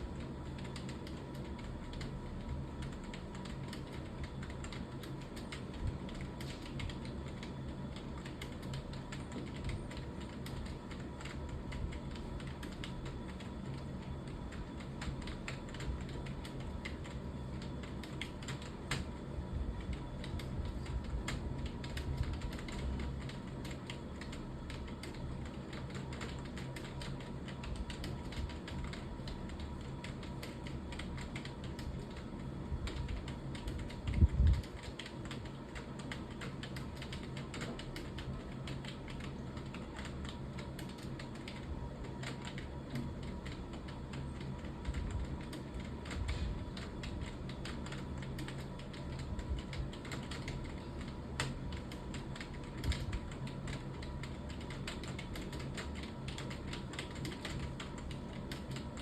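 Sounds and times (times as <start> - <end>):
keyboard typing clicks: 0.1 - 19.2, 19.8 - 59.0.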